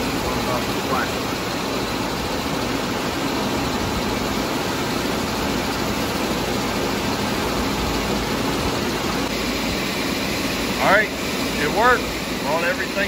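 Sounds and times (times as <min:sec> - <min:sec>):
machinery rumble and hiss: 0:00.0 - 0:13.0.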